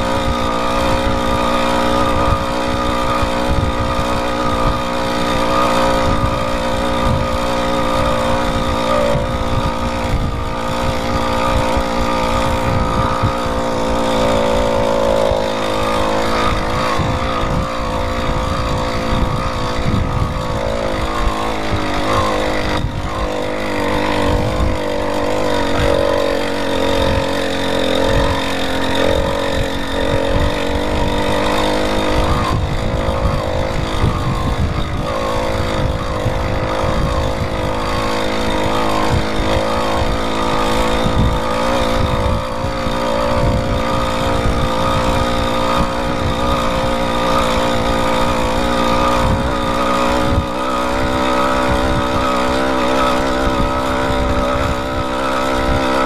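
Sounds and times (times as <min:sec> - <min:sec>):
two-stroke engine running: 0:00.0 - 0:56.0
wind buffeting microphone: 0:00.0 - 0:56.0.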